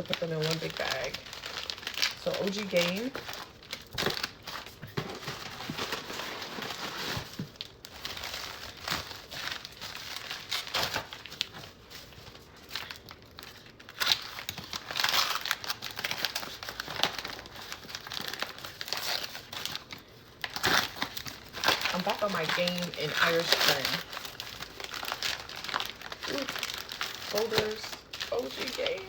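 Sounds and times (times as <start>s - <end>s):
plastic bag crinkling: 0.0s - 29.0s.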